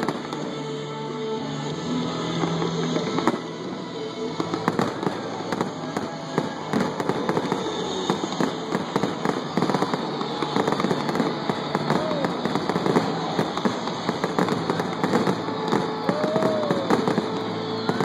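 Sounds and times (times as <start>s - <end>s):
background music: 0.0s - 18.0s
fireworks bursting and crackling: 0.0s - 18.0s.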